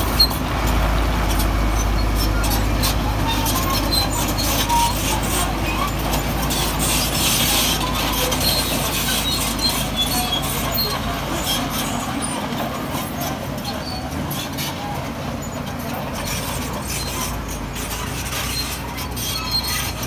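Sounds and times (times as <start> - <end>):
diesel machinery engine rumble: 0.0 - 20.0.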